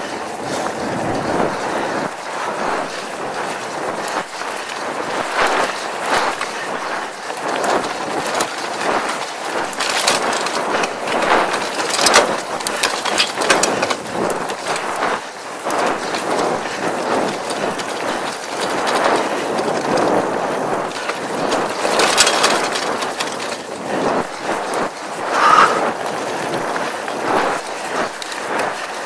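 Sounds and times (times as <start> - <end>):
bike rattling and clicking: 0.0 - 29.0
bike tyres crunching over dirt: 0.0 - 29.0.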